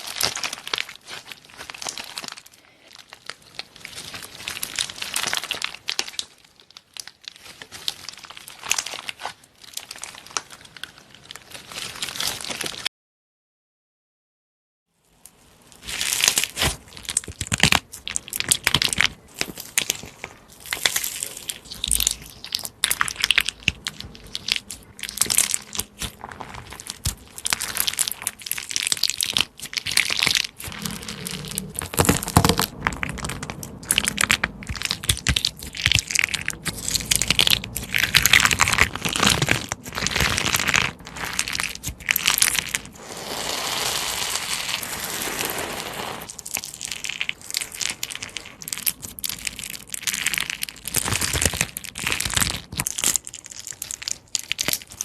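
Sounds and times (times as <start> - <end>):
crunchy slime squeezed by hand: 0.0 - 12.9, 15.8 - 55.0.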